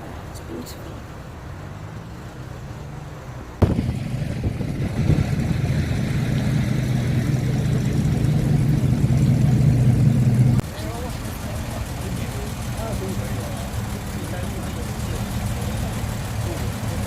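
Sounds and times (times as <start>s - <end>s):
vehicle engine idling: 1.0s - 17.0s.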